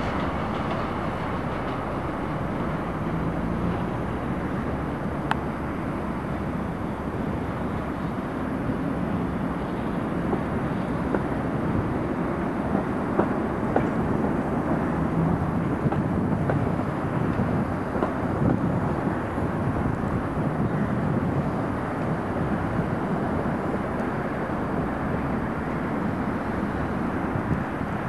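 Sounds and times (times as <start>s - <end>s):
trams rumbling on rails: 0.0s - 28.0s.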